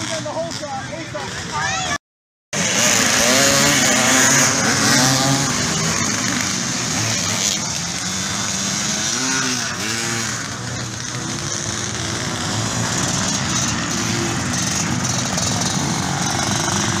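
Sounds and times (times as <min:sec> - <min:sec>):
motorcycle engines revving: 0:00.0 - 0:02.0, 0:02.6 - 0:17.0.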